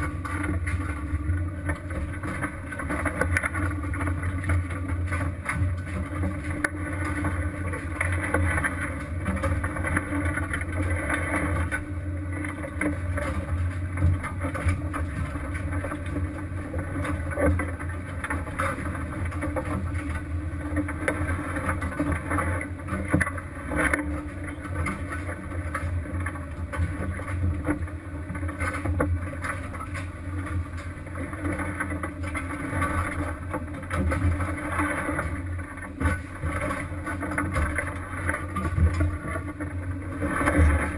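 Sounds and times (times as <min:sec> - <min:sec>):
boat engine running: 0:00.0 - 0:40.9
water around boat: 0:00.0 - 0:40.9.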